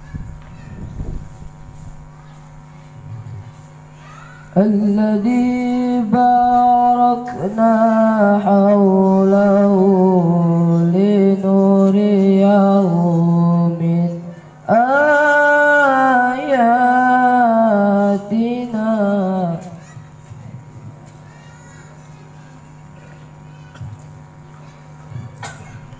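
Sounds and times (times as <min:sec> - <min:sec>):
boy chanting into a microphone: 0:02.9 - 0:25.9.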